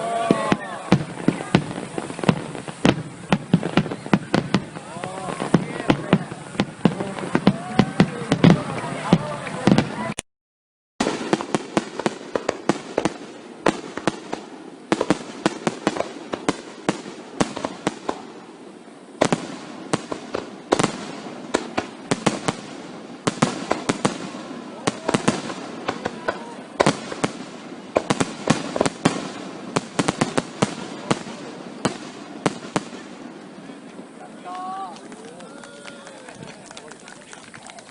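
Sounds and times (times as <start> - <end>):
fireworks bangs and crackling: 0.0 - 10.2, 11.0 - 37.9
loud firework booms: 0.0 - 10.2, 11.0 - 34.3.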